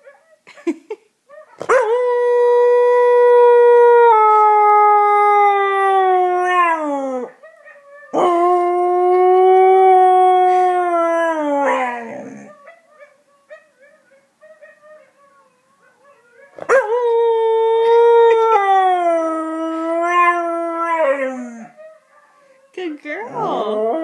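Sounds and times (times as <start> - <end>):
husky howling: 1.4 - 24.0.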